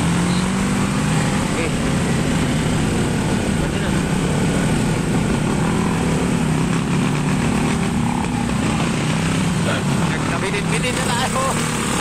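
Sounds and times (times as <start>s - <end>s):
motorcycle and scooter engines: 0.0s - 12.0s.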